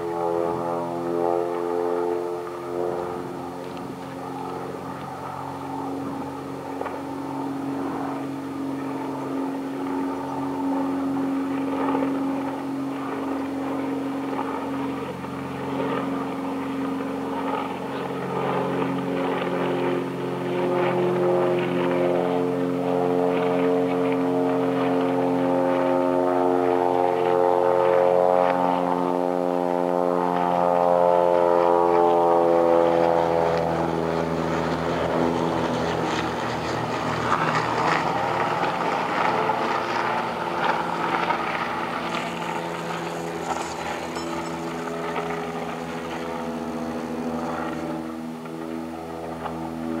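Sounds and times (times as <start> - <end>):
engine drone: 0.0 - 50.0.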